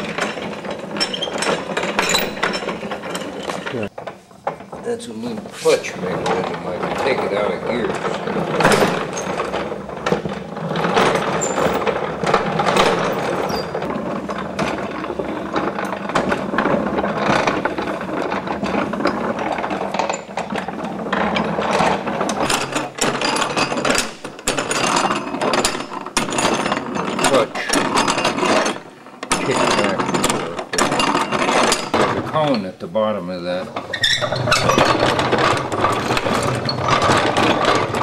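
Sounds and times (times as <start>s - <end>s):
gears clattering: 5.6s - 32.6s, 33.6s - 38.0s.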